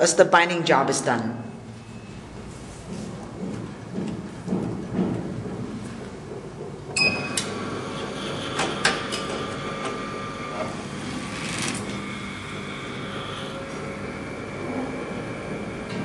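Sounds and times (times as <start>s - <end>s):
binding machine whirring: 1.8s - 16.0s.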